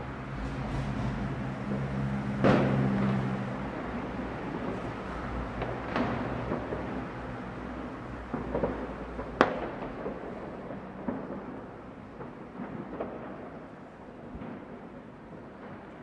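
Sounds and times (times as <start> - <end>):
fireworks rumble: 0.0 - 16.0
firecracker pops and bangs: 2.4 - 16.0.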